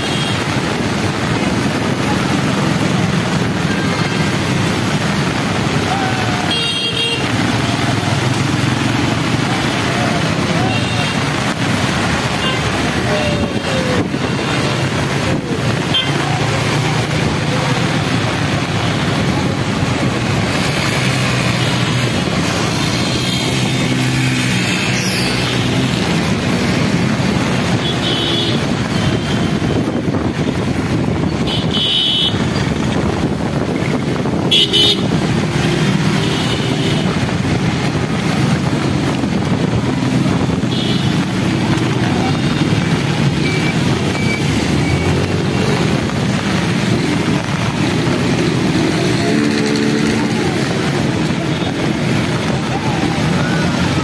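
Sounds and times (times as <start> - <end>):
rain and water spray: 0.0 - 54.0
vehicles driving through water: 0.0 - 54.0.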